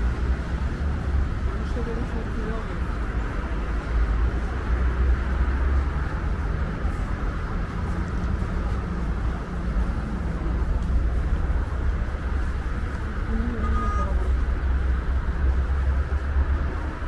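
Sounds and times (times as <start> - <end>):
faint engine hum: 0.0 - 17.0
low rumble of passing vehicles: 0.0 - 17.0.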